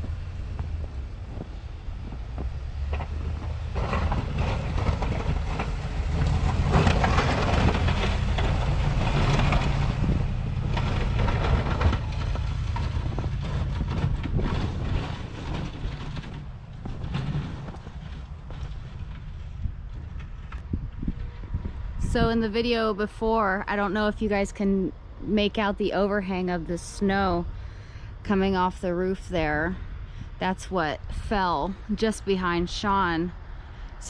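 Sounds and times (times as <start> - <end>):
rough loud noise: 0.0 - 33.8
truck engine rumble: 0.0 - 34.0.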